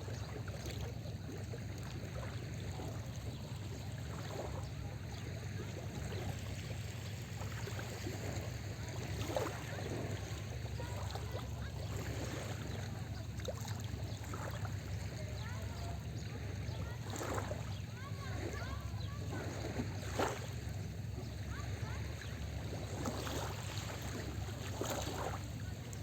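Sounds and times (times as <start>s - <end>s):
small waves lapping at shore: 0.0s - 26.0s.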